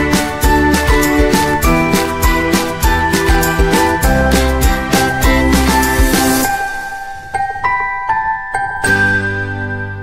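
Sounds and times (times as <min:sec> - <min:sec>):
bell-like music: 0:00.0 - 0:10.0.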